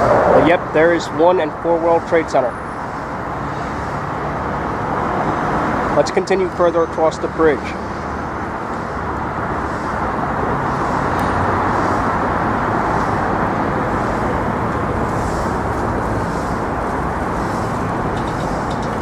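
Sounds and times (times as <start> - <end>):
traffic crossing a bridge: 0.0 - 19.0.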